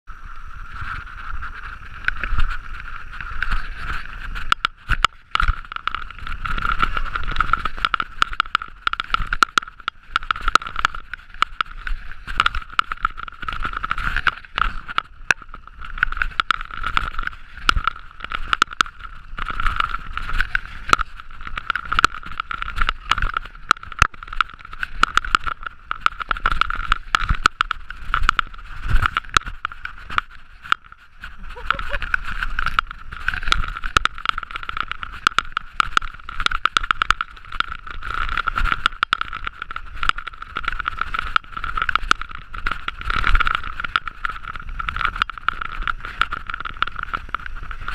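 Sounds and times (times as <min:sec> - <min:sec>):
bike rattling and knocking: 0:00.5 - 0:47.9.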